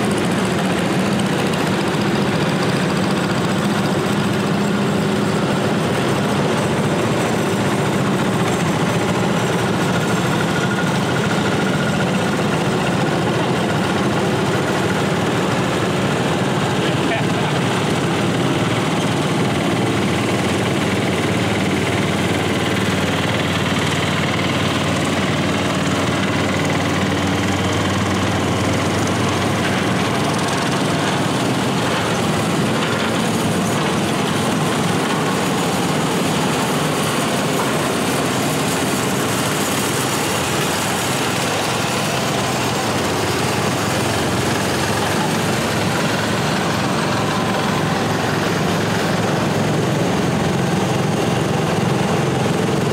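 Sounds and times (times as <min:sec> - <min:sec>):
garden tractor engines running: 0:00.0 - 0:52.9.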